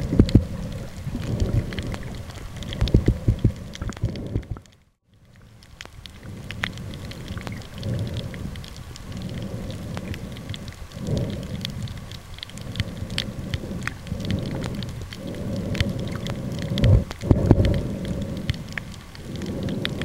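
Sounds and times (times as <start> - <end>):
underwater crackle of clicks: 0.0 - 20.0.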